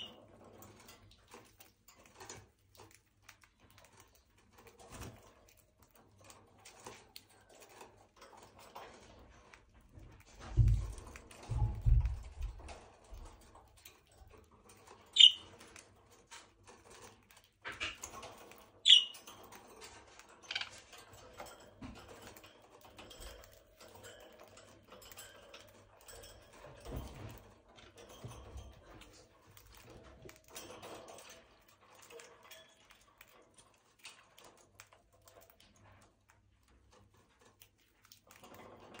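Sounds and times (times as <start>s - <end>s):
birds pecking and scratching in cage: 0.0s - 39.0s.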